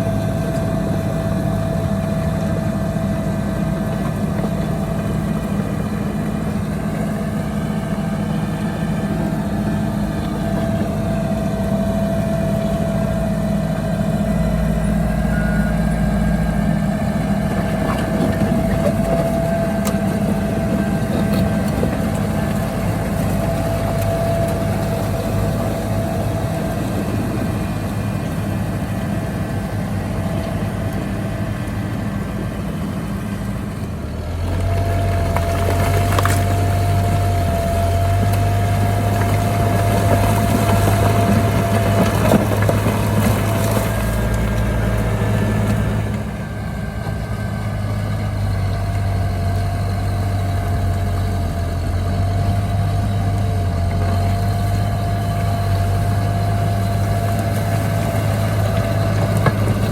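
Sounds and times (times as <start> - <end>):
constant whine: 0.0 - 59.9
heavy diesel engine running: 0.0 - 59.9.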